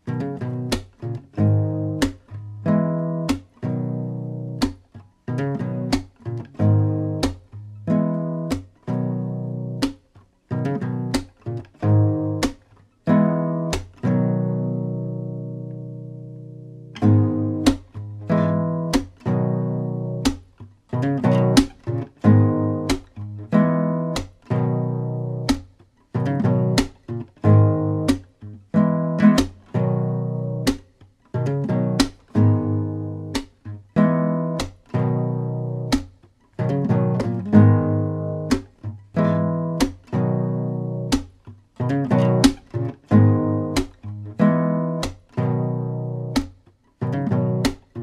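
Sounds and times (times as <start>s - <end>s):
acoustic guitar strummed chords: 0.0s - 48.0s.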